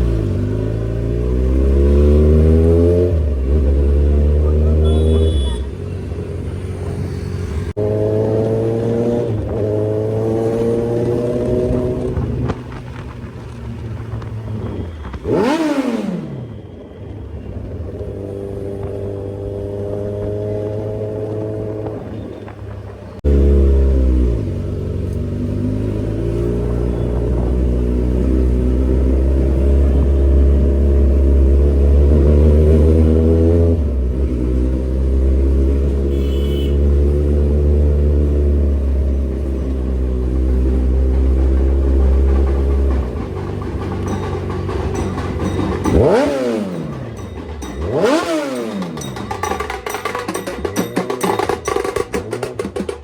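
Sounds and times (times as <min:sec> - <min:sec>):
motorcycle engine running: 0:00.0 - 0:16.4, 0:23.2 - 0:53.0.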